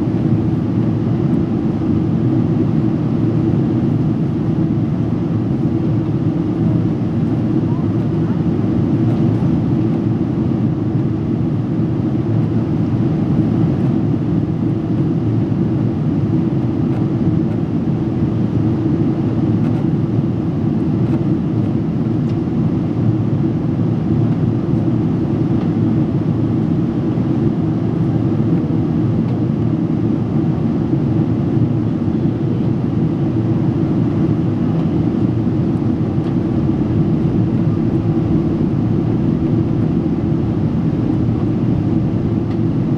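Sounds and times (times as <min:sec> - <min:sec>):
airliner cabin noise: 0:00.0 - 0:42.9.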